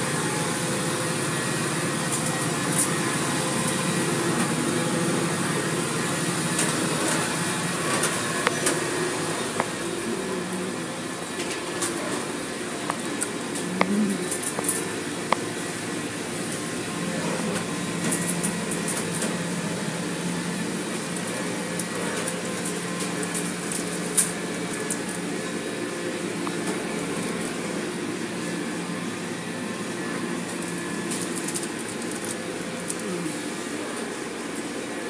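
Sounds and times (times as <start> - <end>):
car wash machinery hum: 0.0 - 35.0.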